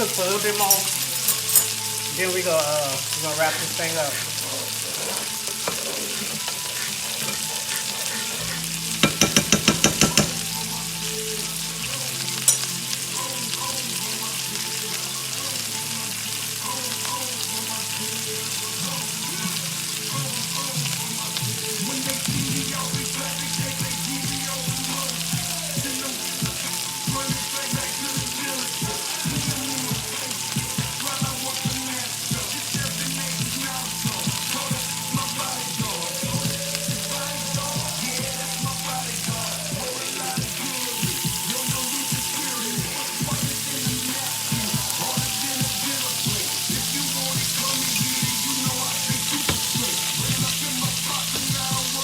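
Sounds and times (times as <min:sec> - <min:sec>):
chicken sizzling in a pan: 0:00.0 - 0:52.0
faint background music: 0:00.0 - 0:52.0.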